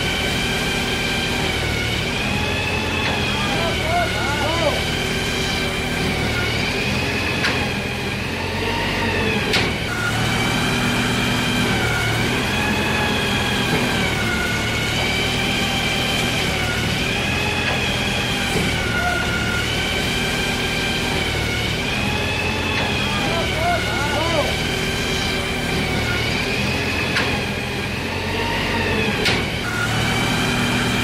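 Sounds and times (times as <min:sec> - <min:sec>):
small motor whining: 0:00.0 - 0:31.0.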